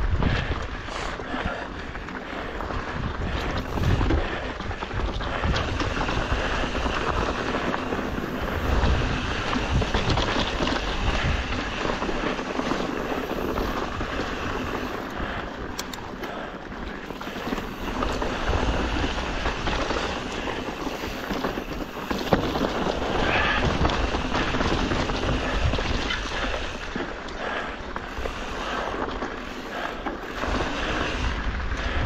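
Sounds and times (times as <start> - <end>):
tyres rolling on dirt trail: 0.0 - 32.0
wind buffeting microphone: 0.0 - 32.0.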